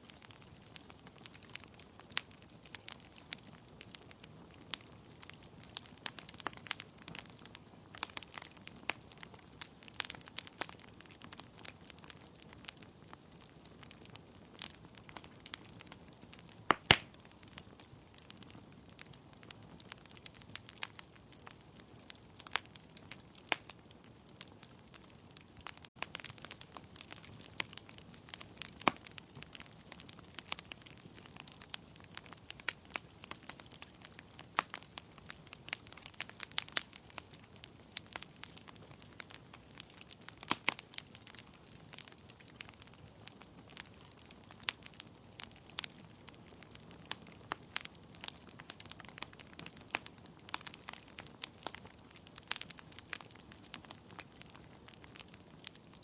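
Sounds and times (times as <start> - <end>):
logs crackling and popping: 0.0 - 56.0.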